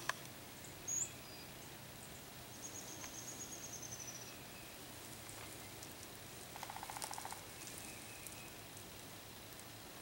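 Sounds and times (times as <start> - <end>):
songbird trill: 0.0 - 9.7
background hiss: 0.0 - 10.0.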